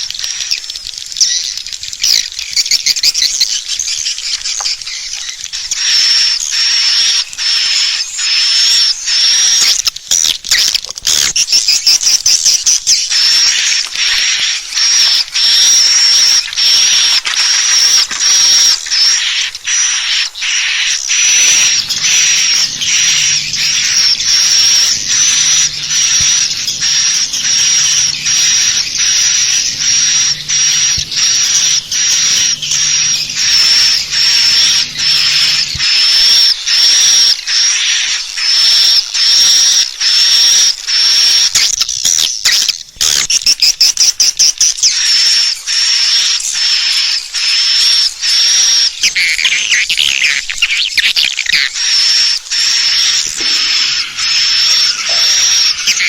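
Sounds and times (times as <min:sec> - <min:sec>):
swiftlet twittering chirps: 0:00.0 - 0:56.0.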